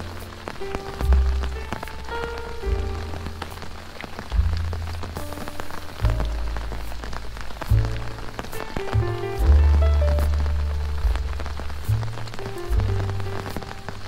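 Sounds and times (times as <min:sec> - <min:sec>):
background music with low bass: 0:00.0 - 0:14.0
rain pattering: 0:00.0 - 0:14.0.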